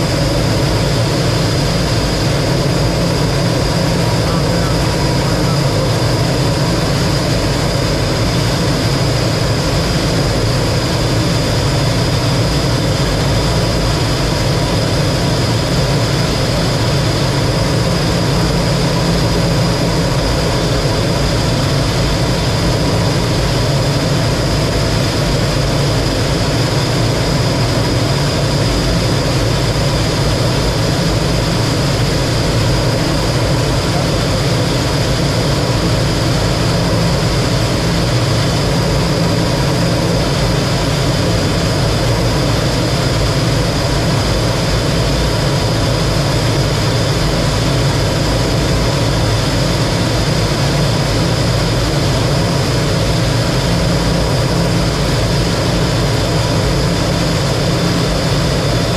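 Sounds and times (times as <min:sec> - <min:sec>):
jet engine drone in cockpit: 0:00.0 - 0:58.9
rushing air: 0:00.0 - 0:58.9.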